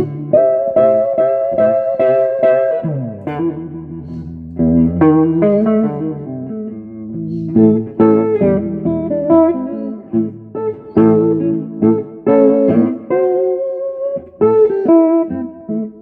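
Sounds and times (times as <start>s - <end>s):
electric guitar chords and notes: 0.0s - 16.0s.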